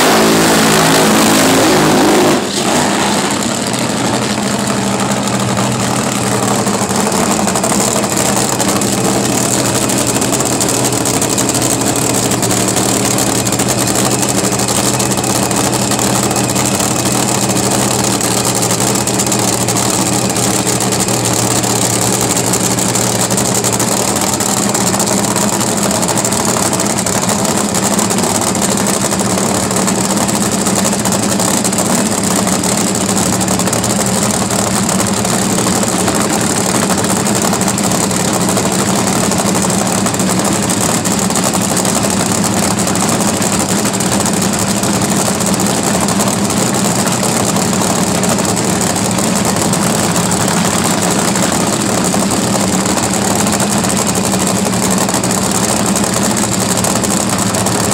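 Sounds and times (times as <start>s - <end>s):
race car engine idling: 0.0s - 57.9s.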